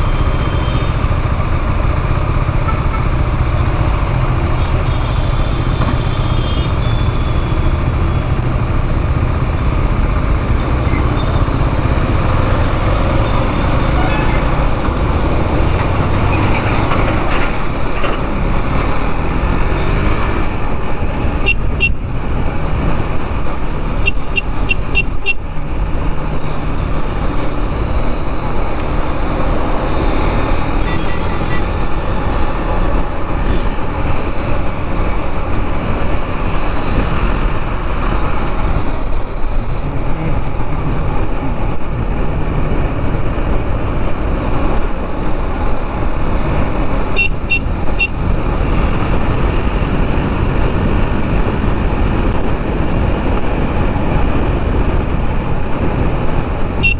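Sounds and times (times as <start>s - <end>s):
motorcycle engine: 0.0s - 56.9s.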